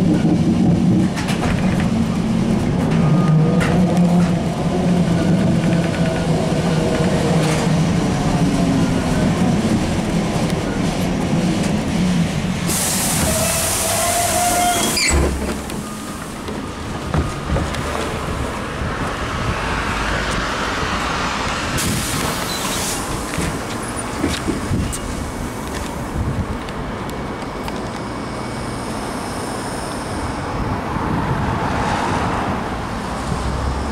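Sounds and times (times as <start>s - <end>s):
trolleybus running rumble: 0.0s - 33.9s.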